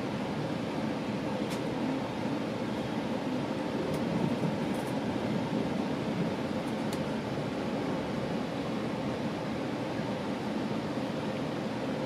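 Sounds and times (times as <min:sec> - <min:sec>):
train interior rumble and hiss: 0:00.0 - 0:12.0.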